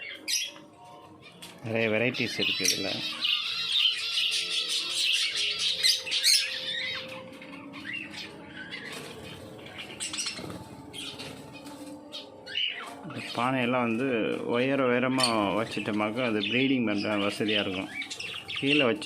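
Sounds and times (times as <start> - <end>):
lovebirds chattering and squawking: 0.0 - 19.0.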